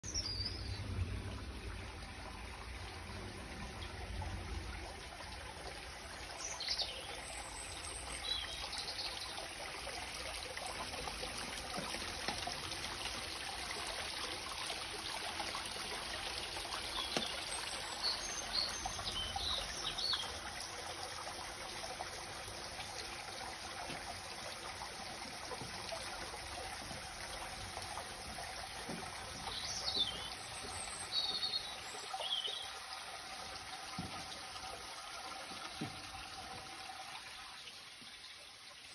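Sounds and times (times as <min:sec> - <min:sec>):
trickle of running water: 0:00.0 - 0:38.9.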